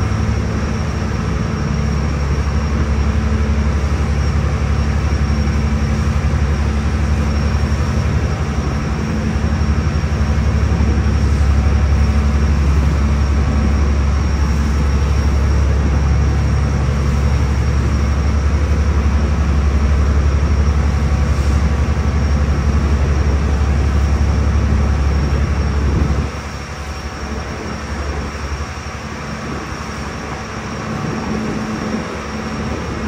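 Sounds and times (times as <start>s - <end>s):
ferry engines droning: 0.0s - 33.0s.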